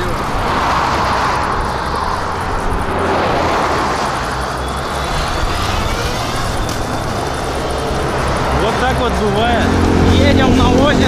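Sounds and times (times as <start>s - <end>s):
motorcycle engine running: 1.4s - 11.0s.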